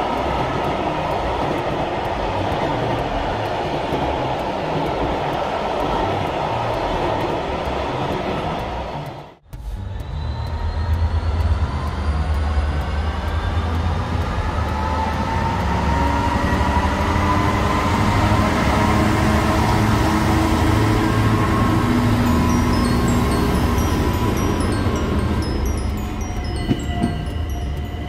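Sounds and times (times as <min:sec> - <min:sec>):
diesel locomotive passing: 0:00.0 - 0:28.0.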